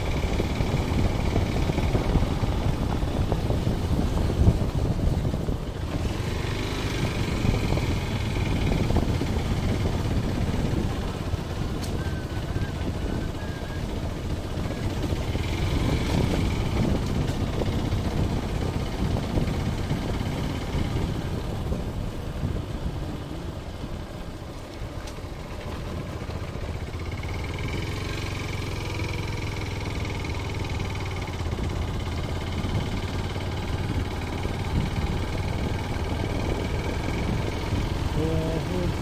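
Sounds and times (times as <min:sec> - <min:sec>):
small vehicle engine running: 0:00.0 - 0:39.0
wind and motion rumble: 0:00.0 - 0:39.0.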